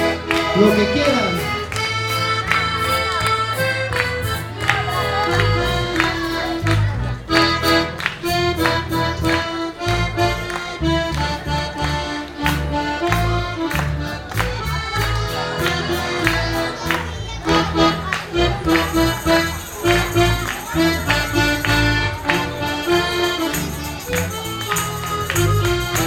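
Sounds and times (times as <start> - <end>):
accordion dance melody: 0.0 - 26.0
folk band playing: 0.0 - 26.0.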